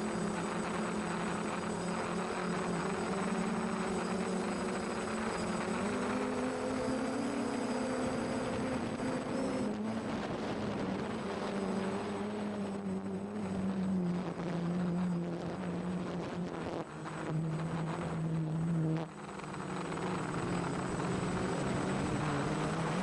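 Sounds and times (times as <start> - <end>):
quadcopter motors humming: 0.0 - 23.0.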